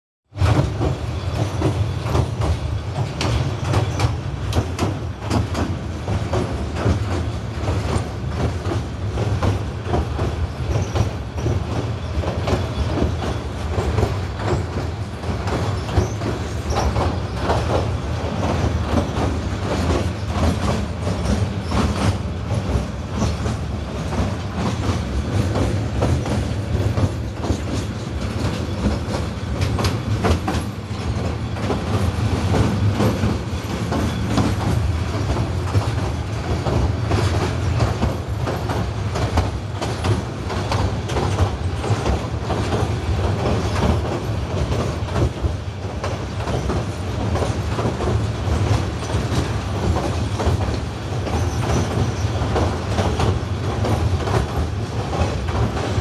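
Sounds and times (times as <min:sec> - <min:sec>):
train rumbling over bridge: 0:00.3 - 0:56.0
wheels clattering on rails: 0:00.3 - 0:56.0.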